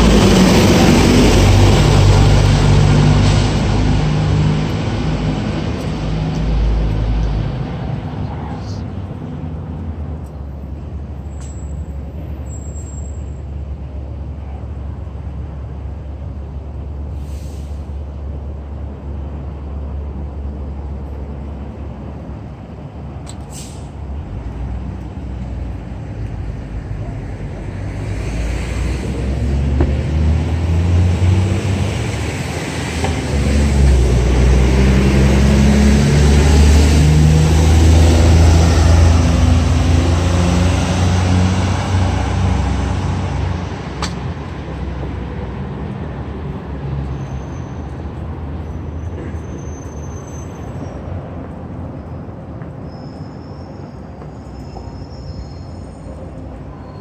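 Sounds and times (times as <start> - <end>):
vehicle engine rumbling: 0.0 - 52.9.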